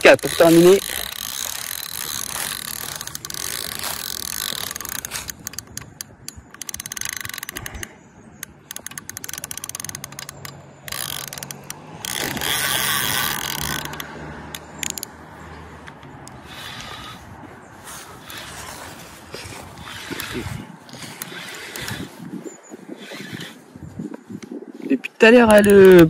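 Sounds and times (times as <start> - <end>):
fishing reel ratcheting: 0.0 - 23.6.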